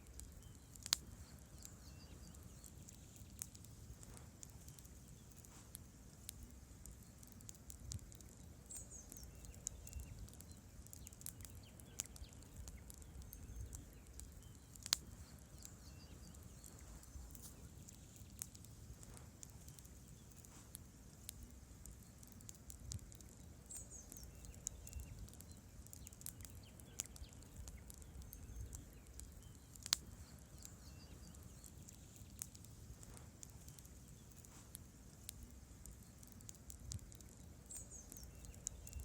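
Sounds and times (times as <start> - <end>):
campfire crackling: 0.0 - 39.0.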